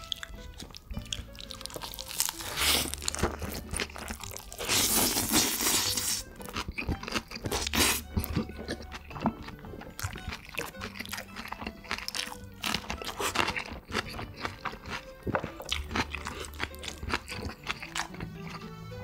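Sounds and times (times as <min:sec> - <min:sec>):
background music with low notes: 0:00.0 - 0:19.0
person chewing and crunching food: 0:00.0 - 0:19.0.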